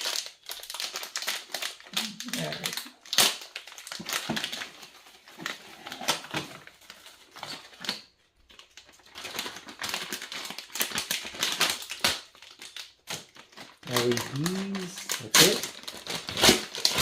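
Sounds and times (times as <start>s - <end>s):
plastic bags and paper crinkling: 0.0s - 17.0s.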